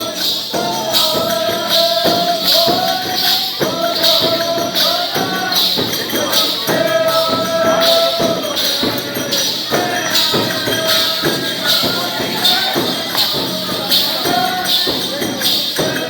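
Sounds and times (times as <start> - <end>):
bright jingling: 0.0 - 16.0
frame drum beating: 0.0 - 16.0.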